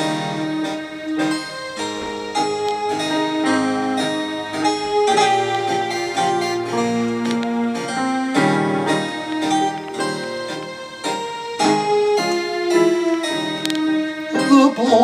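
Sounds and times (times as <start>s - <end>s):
piano-like keyboard playing: 0.0s - 15.0s.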